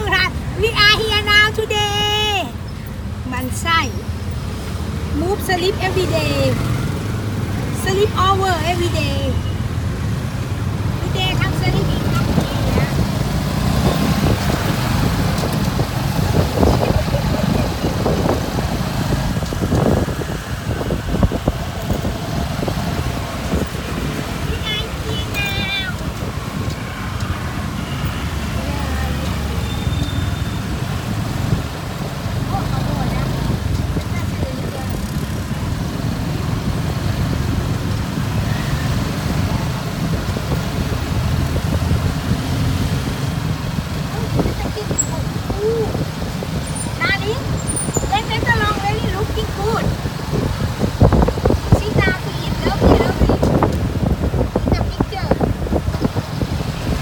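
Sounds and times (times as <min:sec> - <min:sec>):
motorbike engine rumbling: 0:00.0 - 0:57.0
wind and road noise: 0:00.0 - 0:57.0.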